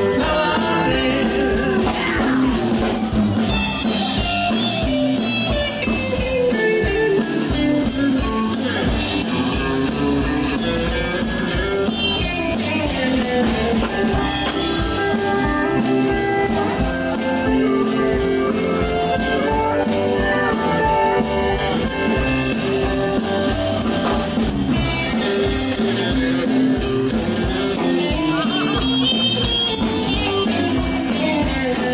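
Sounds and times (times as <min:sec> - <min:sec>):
drum kit beat: 0:00.0 - 0:31.9
guitars playing: 0:00.0 - 0:31.9
tambourine-style shaken percussion: 0:03.5 - 0:31.9.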